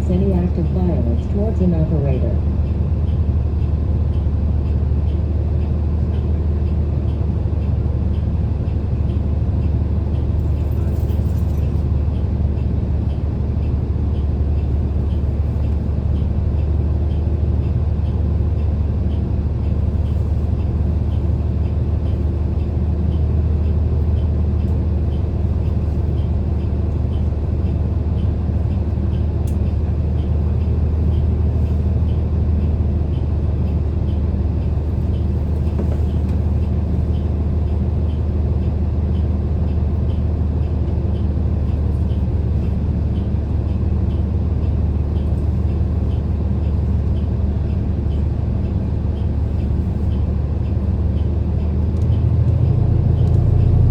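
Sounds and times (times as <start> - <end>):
bus engine and road noise: 0.0 - 53.9
faint regular ticking: 8.1 - 53.9.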